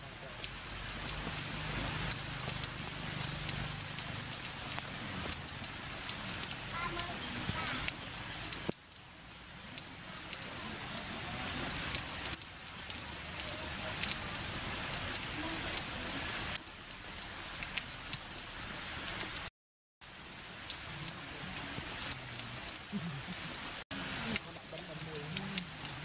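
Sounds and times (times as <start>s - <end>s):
heavy rain on stone and leaves: 0.0s - 26.0s.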